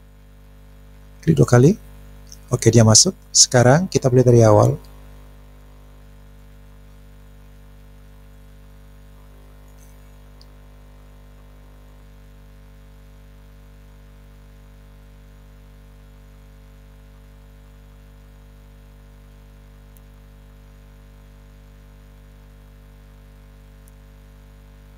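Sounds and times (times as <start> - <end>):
low mains hum: 0.0 - 24.9.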